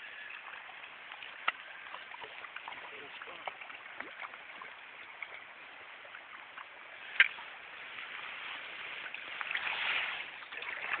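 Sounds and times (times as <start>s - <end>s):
stream water running: 0.0s - 11.0s
water splashing in landing net: 0.1s - 11.0s.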